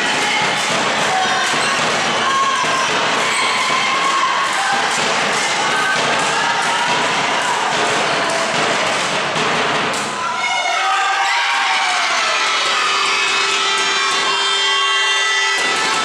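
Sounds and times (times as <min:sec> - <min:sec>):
girls shouting and cheering: 0:00.0 - 0:08.8, 0:10.1 - 0:16.0.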